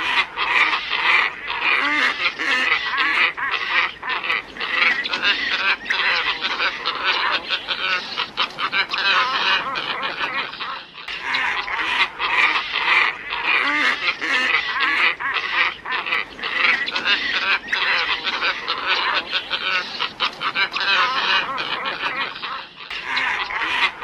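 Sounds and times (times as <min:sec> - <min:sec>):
flock of birds calling: 0:00.0 - 0:24.0.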